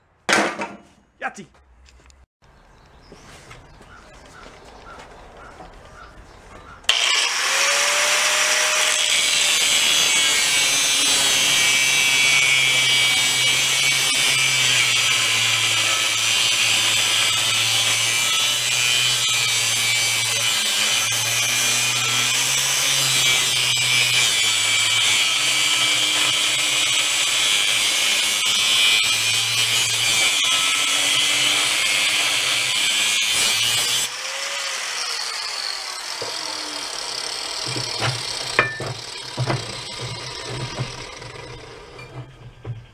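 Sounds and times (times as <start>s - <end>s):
angle grinder grinding steel rod: 6.9s - 42.9s.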